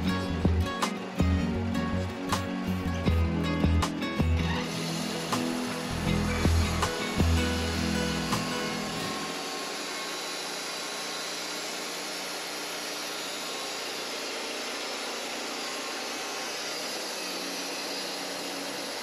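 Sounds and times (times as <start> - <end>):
bandsaw mill cutting log: 0.0 - 19.0.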